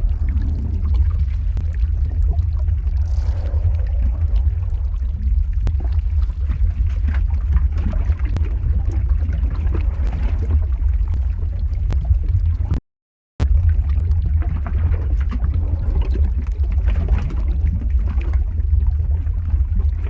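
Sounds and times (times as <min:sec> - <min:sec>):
crackles and pops: 0:00.0 - 0:12.8, 0:13.4 - 0:20.0
deep rumble: 0:00.0 - 0:12.8, 0:13.4 - 0:20.0.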